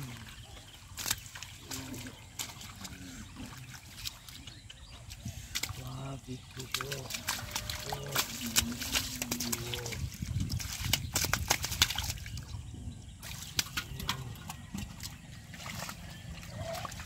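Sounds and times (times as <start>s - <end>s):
splashing in muddy water: 0.0s - 17.0s.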